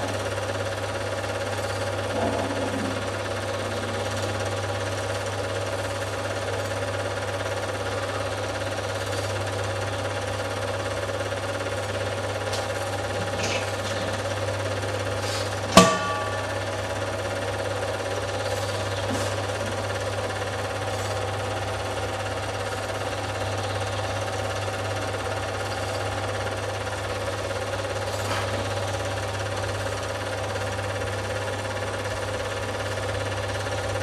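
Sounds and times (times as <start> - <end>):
film projector whirring: 0.0 - 34.0.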